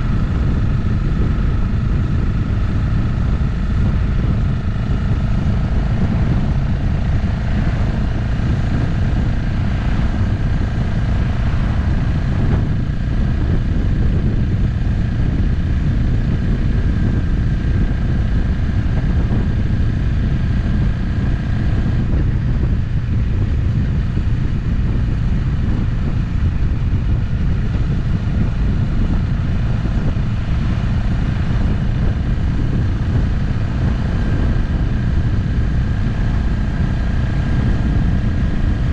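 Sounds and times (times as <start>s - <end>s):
faint steady whine: 0.0s - 38.9s
motorcycle engine cruising: 0.0s - 38.9s.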